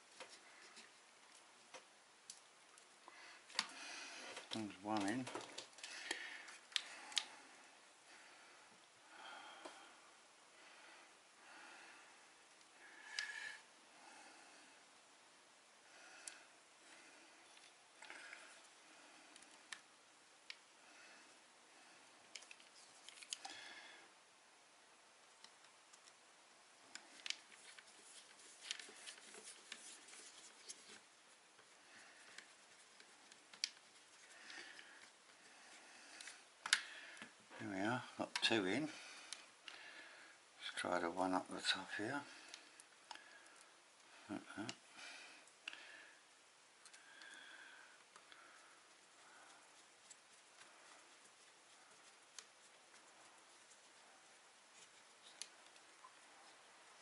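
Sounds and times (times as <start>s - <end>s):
soft breathing: 0.1s - 1.5s, 3.0s - 24.3s, 26.7s - 40.7s, 41.6s - 57.0s.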